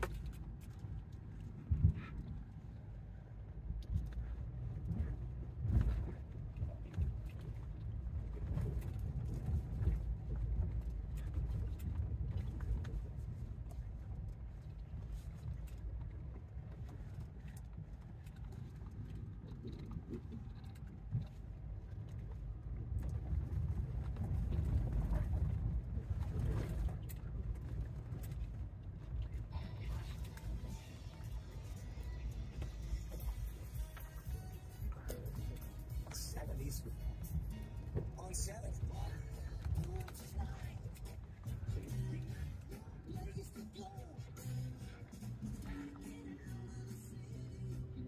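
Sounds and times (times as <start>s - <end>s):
truck engine and tyres rumbling: 0.0s - 48.0s.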